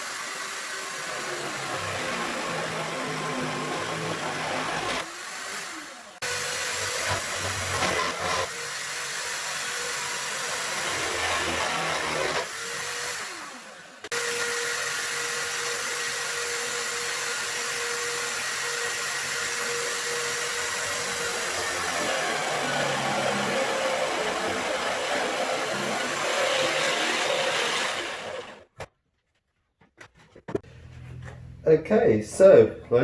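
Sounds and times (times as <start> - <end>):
electric drill boring into wood: 0.0 - 28.7.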